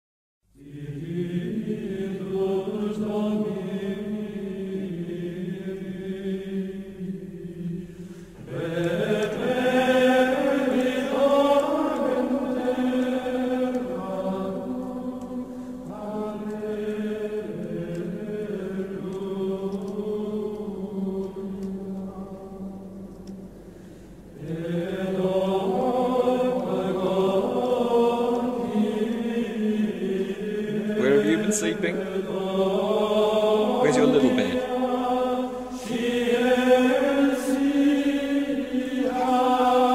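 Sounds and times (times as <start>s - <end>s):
voices chanting long notes: 0.6s - 7.8s, 8.5s - 22.9s, 24.4s - 39.9s.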